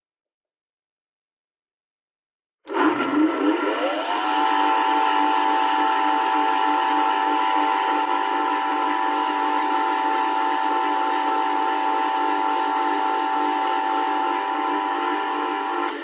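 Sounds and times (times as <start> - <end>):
bench grinder motor whine: 2.7 - 16.0.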